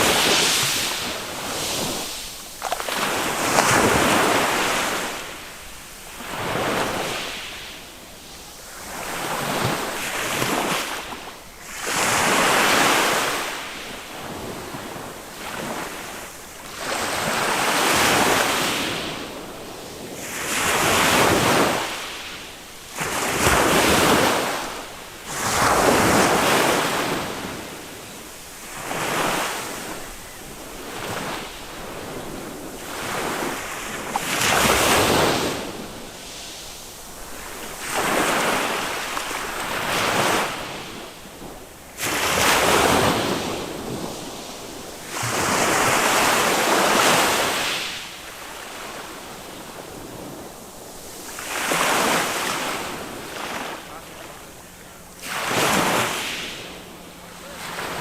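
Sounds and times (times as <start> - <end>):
small waves breaking on sand: 0.0 - 58.0.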